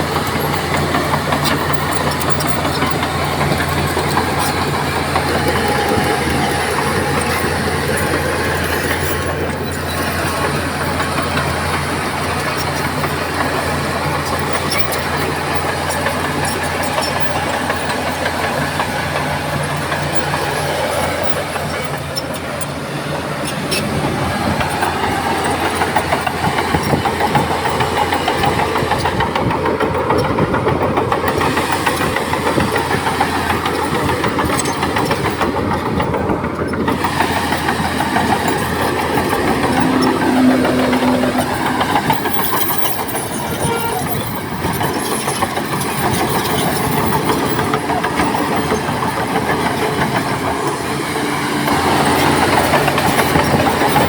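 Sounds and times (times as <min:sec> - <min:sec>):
diesel earthmoving machinery engine: 0:00.0 - 0:54.0.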